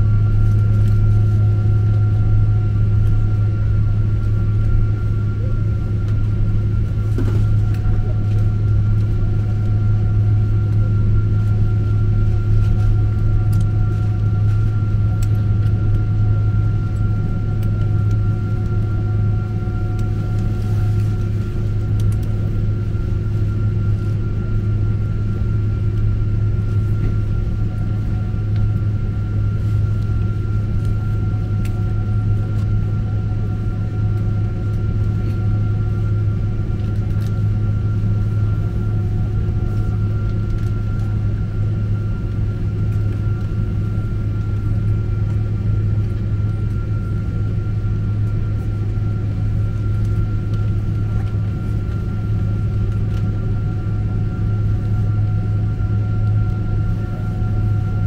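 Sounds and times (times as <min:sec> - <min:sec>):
airliner cabin rumble: 0:00.0 - 0:58.0
thin steady whine: 0:00.0 - 0:58.0.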